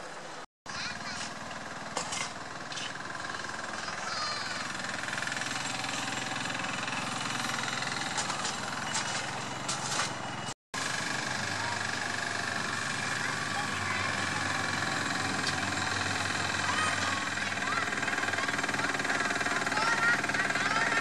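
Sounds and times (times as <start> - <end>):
small diesel locomotive engine: 0.0 - 21.0.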